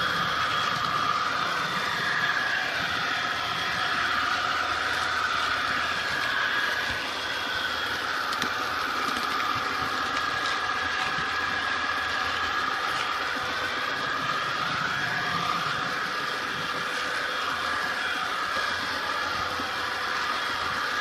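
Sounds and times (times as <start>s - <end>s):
model train mechanical whine: 0.0s - 21.0s.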